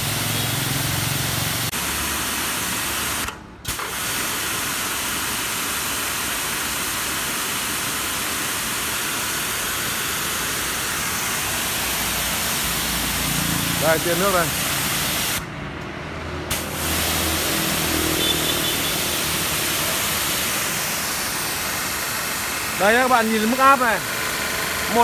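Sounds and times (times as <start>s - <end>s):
pressure washer jetting water: 0.0s - 15.5s, 16.5s - 25.0s.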